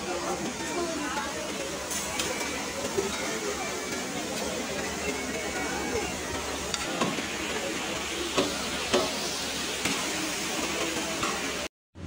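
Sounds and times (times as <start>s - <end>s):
restaurant background hiss: 0.0s - 12.0s.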